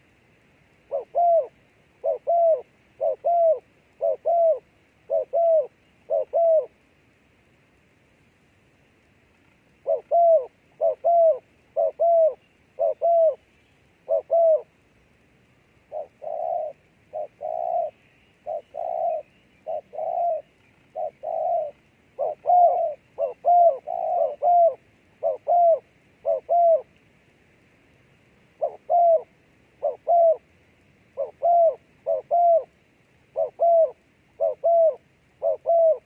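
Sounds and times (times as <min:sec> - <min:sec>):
faint steady hiss: 0:00.0 - 0:36.0
dove cooing: 0:00.8 - 0:06.8, 0:09.8 - 0:14.8, 0:15.8 - 0:26.9, 0:28.5 - 0:30.5, 0:31.1 - 0:36.0.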